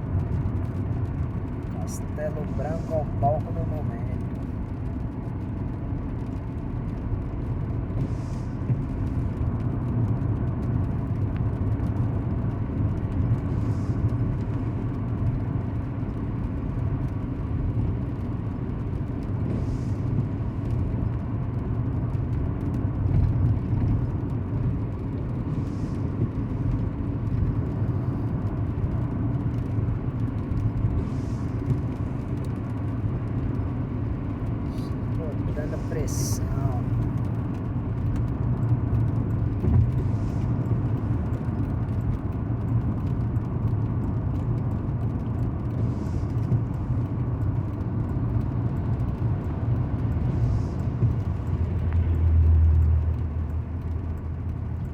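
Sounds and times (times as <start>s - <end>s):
truck engine and road noise: 0.0s - 54.9s.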